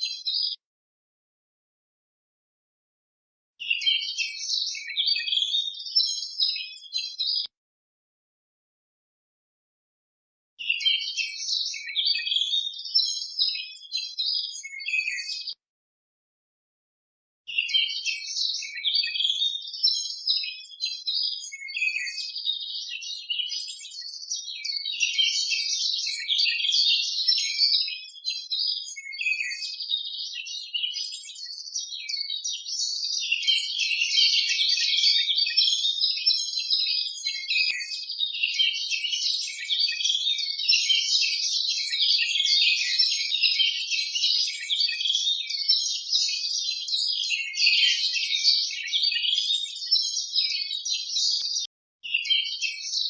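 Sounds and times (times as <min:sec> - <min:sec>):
small birds chirping: 0:00.0 - 0:00.6, 0:03.6 - 0:07.5, 0:10.6 - 0:15.6, 0:17.5 - 0:53.0.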